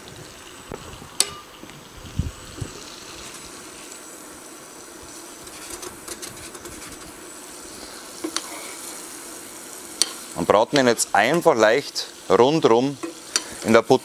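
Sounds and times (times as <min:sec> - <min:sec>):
meat sizzling in a frying pan: 0:00.0 - 0:14.0.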